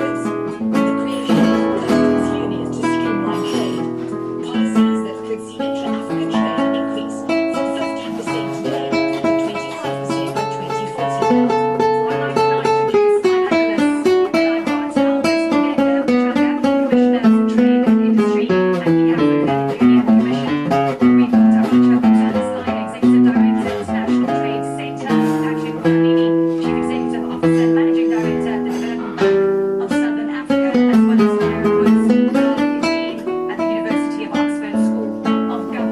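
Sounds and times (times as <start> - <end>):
acoustic guitar plucked notes: 0.0 - 35.9.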